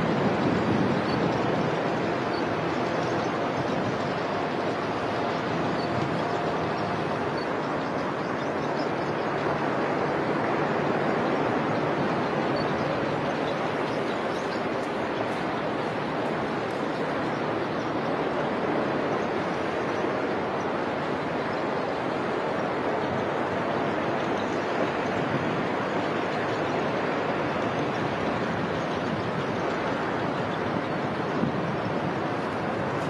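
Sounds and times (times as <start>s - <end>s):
road traffic rushing: 0.0s - 33.0s.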